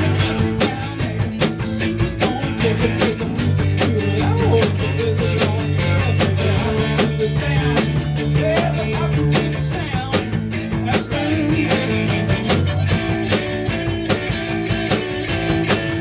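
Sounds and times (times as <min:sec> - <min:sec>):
drum beat with cymbal hits: 0:00.0 - 0:16.0
rock band playing: 0:00.0 - 0:16.0.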